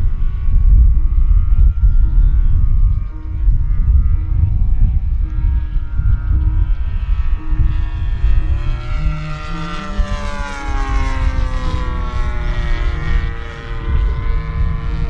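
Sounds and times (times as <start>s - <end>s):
low rumble: 0.0s - 15.0s
model airplane engine buzzing past: 0.0s - 15.0s.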